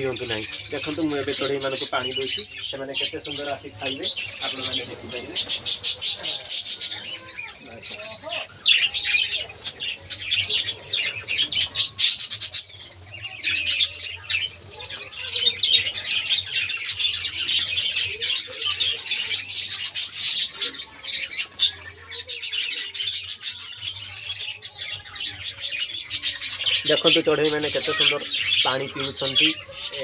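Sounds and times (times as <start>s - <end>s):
budgerigar flock chattering: 0.0s - 30.0s.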